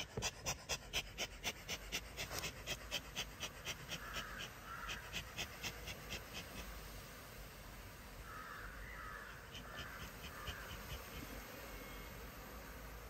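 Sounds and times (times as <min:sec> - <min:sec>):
bellows puffing in hissing bursts: 0:00.0 - 0:08.2, 0:09.1 - 0:13.0.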